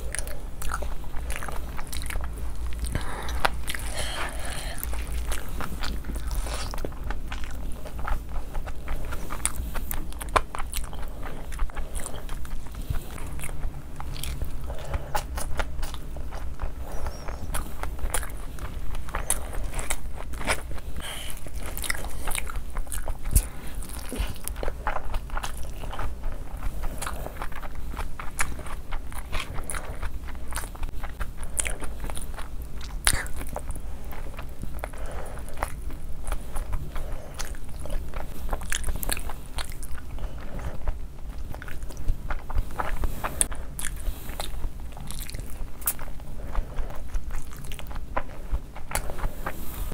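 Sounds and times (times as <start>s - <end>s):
chewing and biting food: 0.0s - 49.9s.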